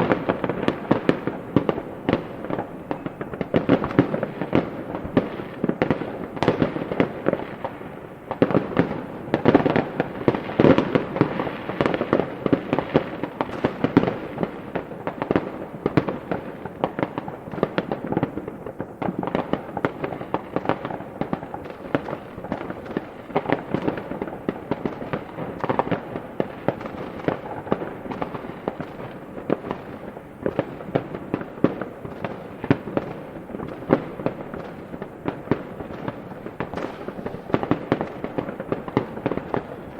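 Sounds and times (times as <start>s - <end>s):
fireworks bangs and crackling pops: 0.0s - 39.9s.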